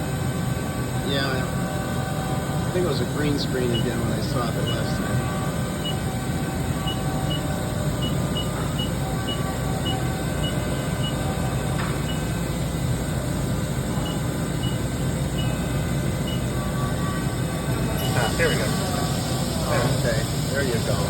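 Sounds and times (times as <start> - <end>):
machinery hum and rumble: 0.0 - 21.0.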